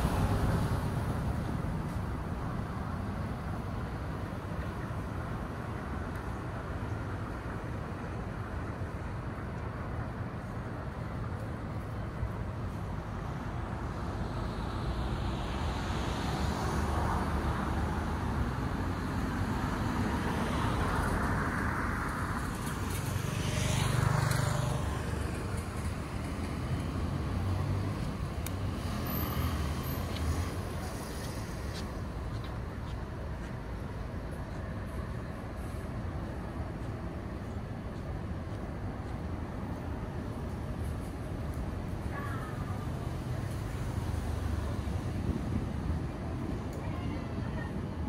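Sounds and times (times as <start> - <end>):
road traffic: 0.0 - 48.0.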